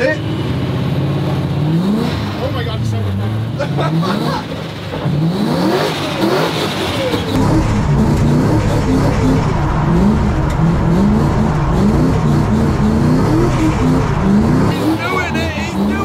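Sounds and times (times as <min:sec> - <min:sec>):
car engine revving hard: 0:00.5 - 0:02.5, 0:03.8 - 0:16.0.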